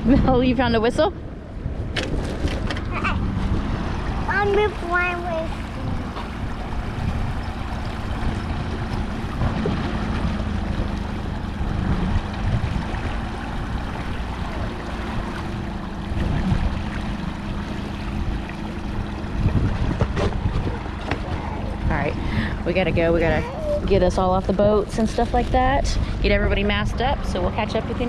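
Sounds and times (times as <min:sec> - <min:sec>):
outboard motor running: 0:00.0 - 0:28.0
water washing alongside boat: 0:00.0 - 0:28.0
wind buffeting microphone: 0:00.0 - 0:28.0.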